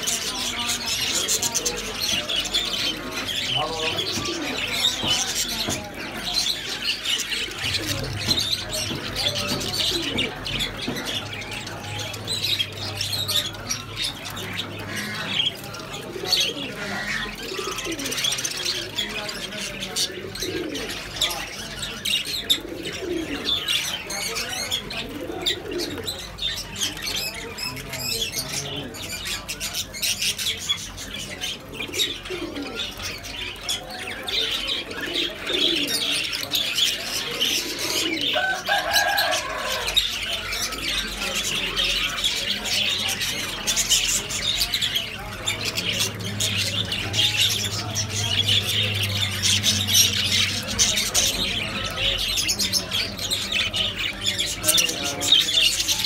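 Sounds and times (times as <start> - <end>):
flock of birds chattering: 0.0 - 56.0.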